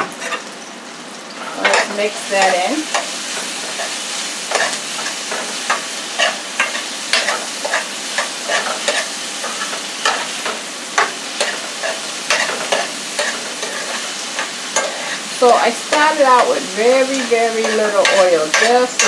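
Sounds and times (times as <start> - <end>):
spoon scraping a pan: 0.0 - 0.5, 1.5 - 19.0
vegetables sizzling in oil: 0.0 - 19.0.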